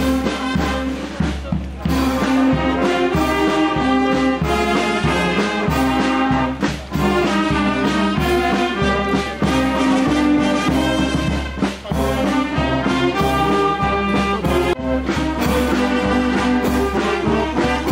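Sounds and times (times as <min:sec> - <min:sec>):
brass band playing a march: 0:00.0 - 0:17.9
low drum beat: 0:00.0 - 0:17.9.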